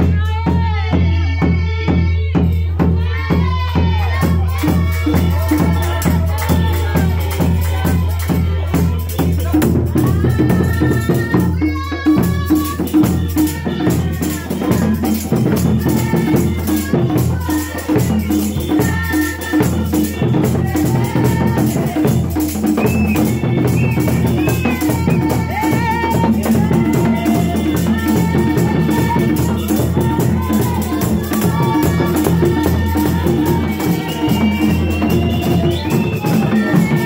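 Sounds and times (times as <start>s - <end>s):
voices singing: 0.0s - 37.0s
jingle rattles shaking: 4.0s - 37.0s.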